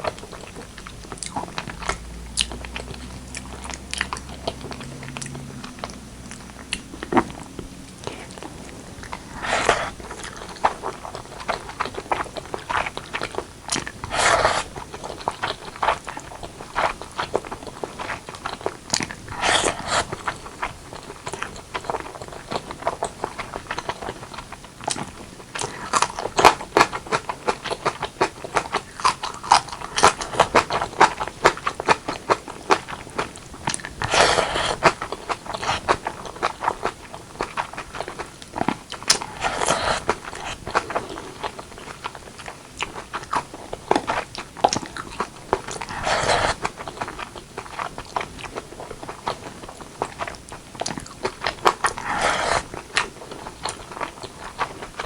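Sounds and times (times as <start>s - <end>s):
chewing food: 0.0s - 55.0s.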